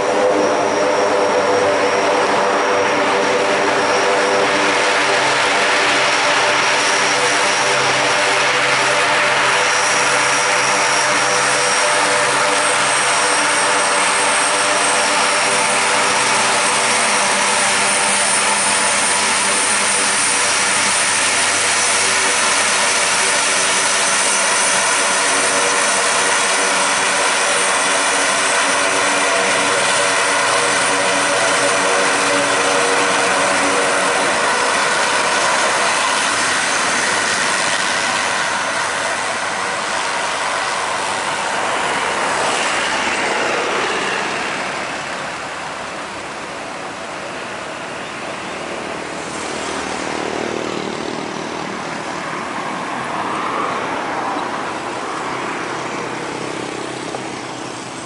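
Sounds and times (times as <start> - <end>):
turboprop aircraft propeller drone: 0.0 - 58.0.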